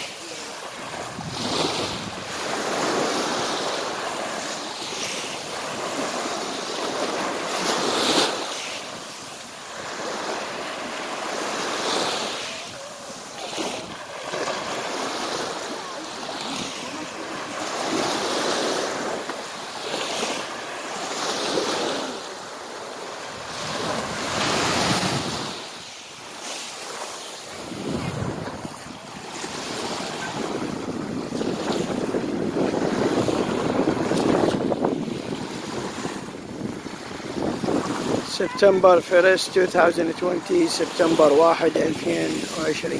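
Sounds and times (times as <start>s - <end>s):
small waves breaking on pebbles: 0.0s - 38.8s.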